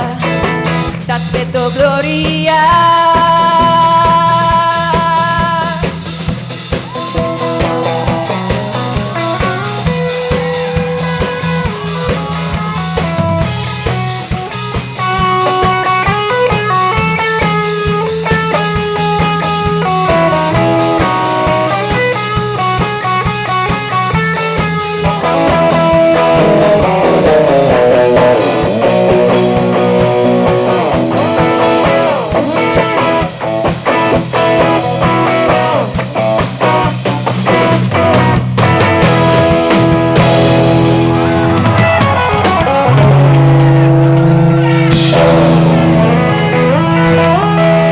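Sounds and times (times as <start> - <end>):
bass: 0.0 - 47.9
guitar: 0.0 - 47.9
live band playing: 0.0 - 47.9
steady drum beat: 0.0 - 47.9.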